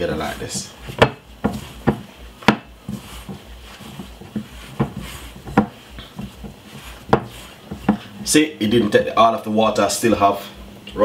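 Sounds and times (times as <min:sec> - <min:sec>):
dough squishing and rubbing: 0:00.0 - 0:10.4.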